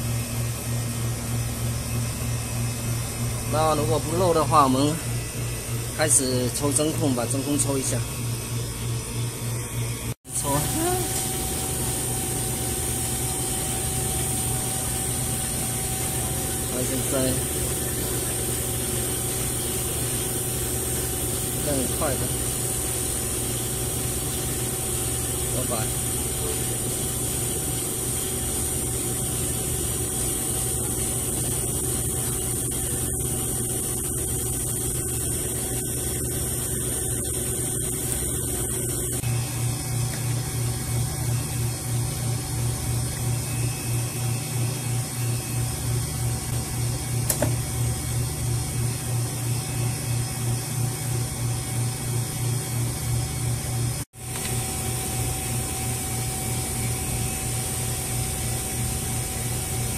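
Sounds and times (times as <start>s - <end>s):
vacuum pump humming: 0.0s - 59.9s.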